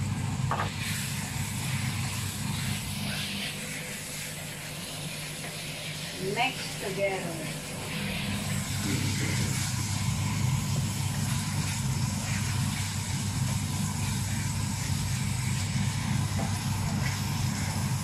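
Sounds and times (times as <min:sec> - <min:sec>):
chicken and onion sizzling in wok: 0:00.0 - 0:18.0
steady low hum: 0:00.0 - 0:18.0.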